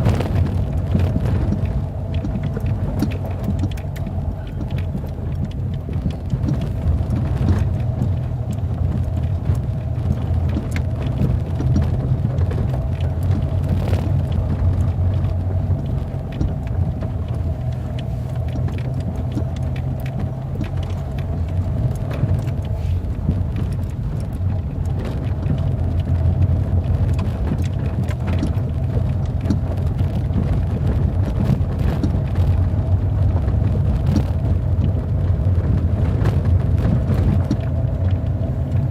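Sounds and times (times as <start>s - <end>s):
vehicle low rumble: 0.0s - 38.9s.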